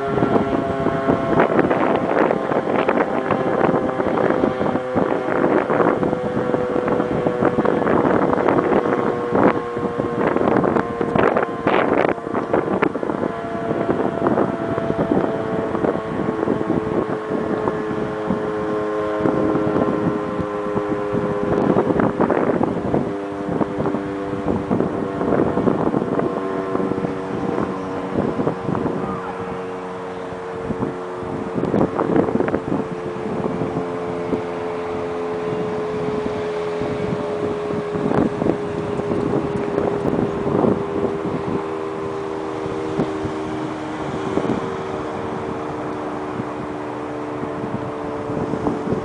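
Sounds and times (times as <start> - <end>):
warning sirens steady tones: 0.0 - 49.0
wind buffeting microphone: 0.0 - 49.0.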